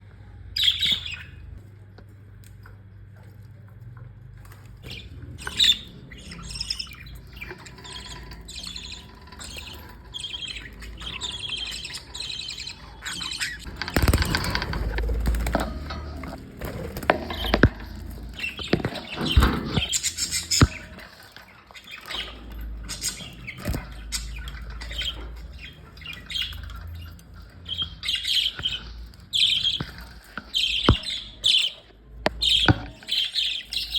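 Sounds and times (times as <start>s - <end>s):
budgerigars chirping and chattering: 0.5s - 1.6s, 4.5s - 33.9s.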